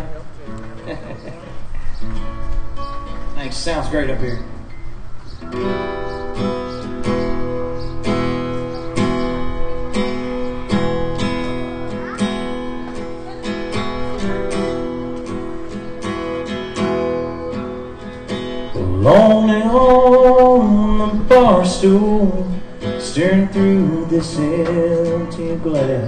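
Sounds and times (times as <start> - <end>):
acoustic guitar strumming chords: 2.0 - 26.0.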